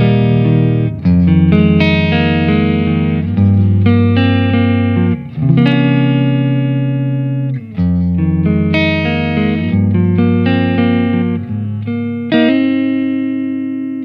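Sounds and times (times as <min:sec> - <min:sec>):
electric guitar chords and notes: 0:00.0 - 0:14.0.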